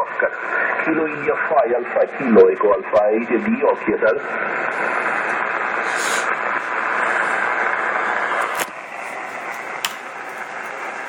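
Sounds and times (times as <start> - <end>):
radio hiss and static: 0.0 - 11.0.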